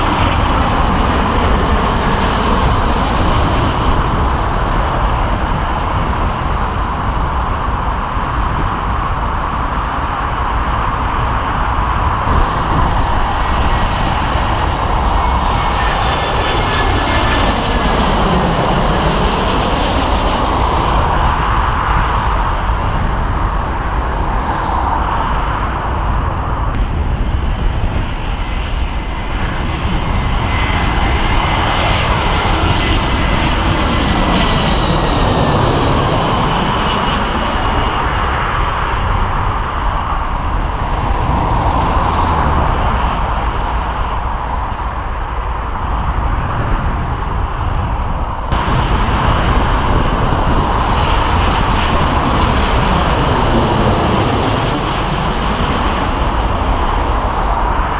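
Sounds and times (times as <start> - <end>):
jet airliner passing overhead: 0.0 - 57.9.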